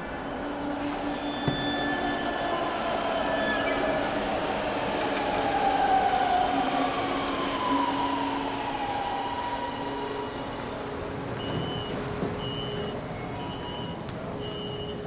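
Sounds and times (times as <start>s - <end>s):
subway train rumbling with whine: 0.0s - 15.0s.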